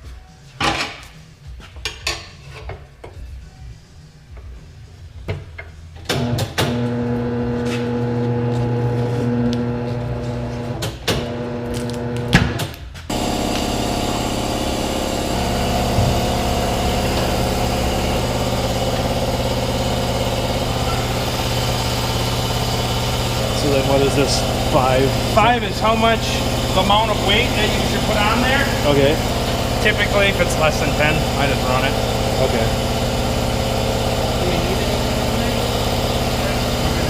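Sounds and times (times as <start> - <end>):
wheel balancer motor hum: 6.2 - 12.4, 13.1 - 37.0.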